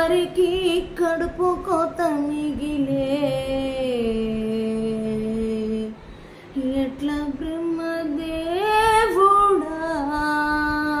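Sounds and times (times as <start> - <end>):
woman singing unaccompanied: 0.0 - 11.0.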